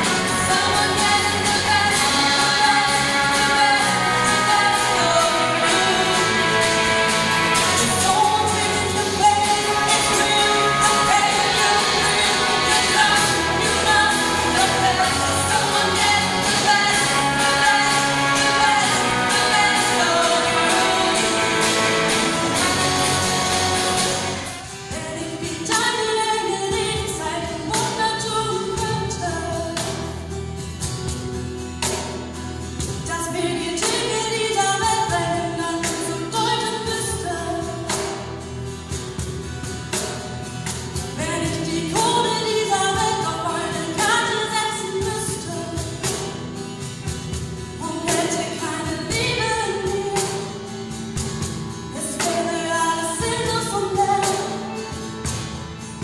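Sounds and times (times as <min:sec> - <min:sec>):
woman singing: 0:00.0 - 0:30.1, 0:32.9 - 0:38.4, 0:40.9 - 0:46.4, 0:47.8 - 0:55.0
acoustic guitar: 0:00.0 - 0:56.0
cajon beat: 0:00.0 - 0:56.0.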